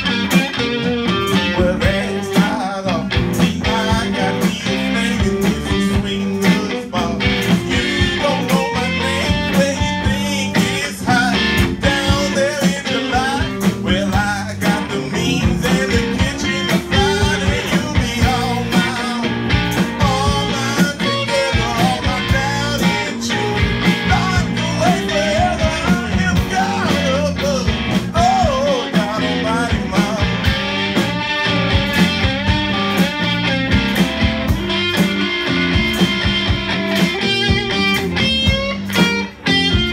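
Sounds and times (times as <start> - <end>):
drum kit beat: 0.0 - 39.9
electric bass: 0.0 - 39.9
electric guitar lead lines: 0.0 - 39.9.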